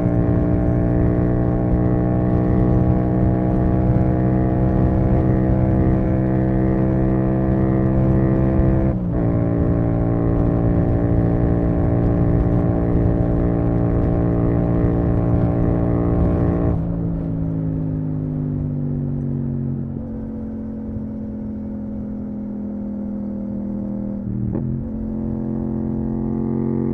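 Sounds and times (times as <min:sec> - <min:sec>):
motorcycle engine running steadily: 0:00.0 - 0:26.9.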